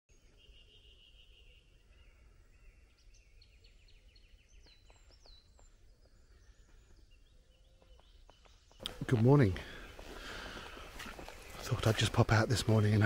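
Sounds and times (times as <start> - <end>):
faint songbird singing: 0.1 - 13.0.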